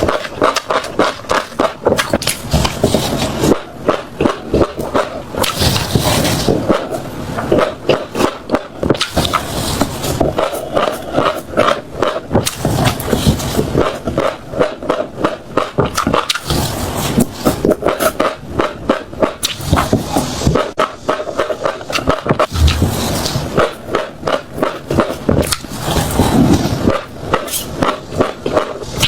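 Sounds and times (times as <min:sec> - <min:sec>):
chewing crunchy seeds: 0:00.0 - 0:29.0.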